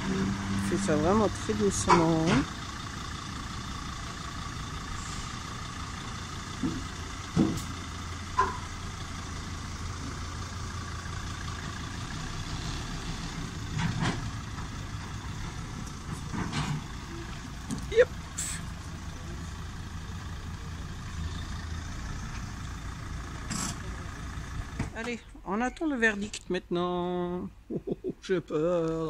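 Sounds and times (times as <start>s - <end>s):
motorhome engine running: 0.0s - 29.0s.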